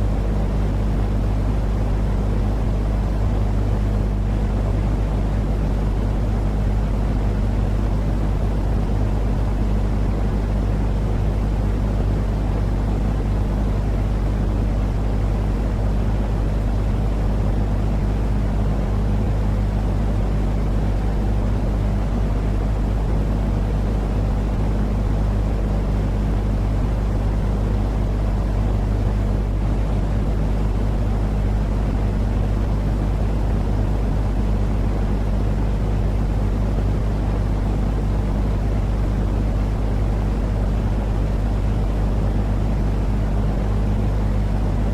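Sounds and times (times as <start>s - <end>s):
constant hum: 0.0s - 44.9s.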